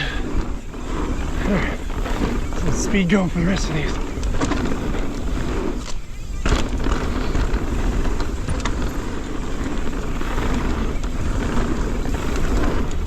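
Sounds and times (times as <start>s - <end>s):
bike clicks and rattles: 0.0s - 13.0s
bike tyre noise on dirt: 0.0s - 13.0s.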